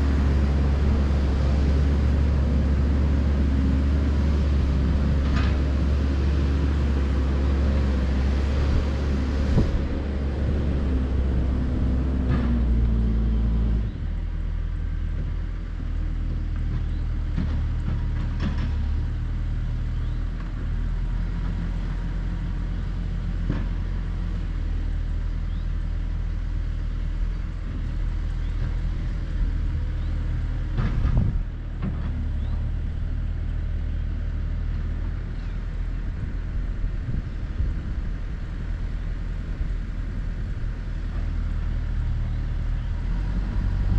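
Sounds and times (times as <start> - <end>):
diesel engine revving: 0.0 - 43.9.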